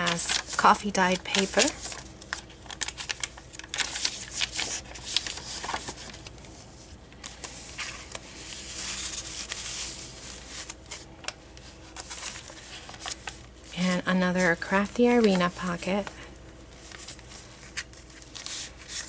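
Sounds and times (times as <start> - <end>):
paper pages rustling and flapping: 0.0 - 13.6, 14.4 - 19.0.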